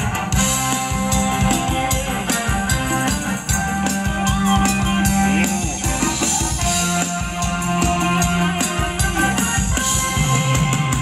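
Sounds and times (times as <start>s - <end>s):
live band dance music: 0.0s - 11.0s
steady drum beat: 0.0s - 11.0s.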